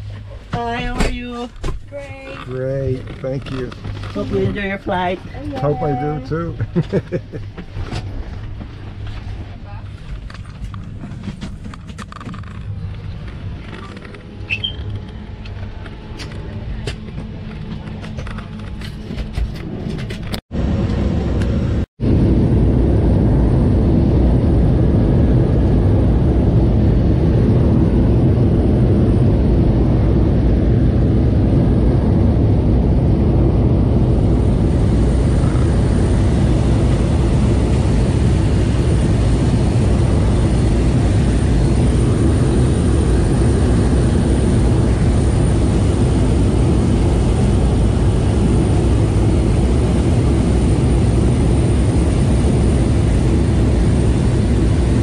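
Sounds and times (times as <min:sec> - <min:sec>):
engine and propeller drone: 0:00.0 - 0:55.0
propeller engine rumble in cabin: 0:00.0 - 0:55.0.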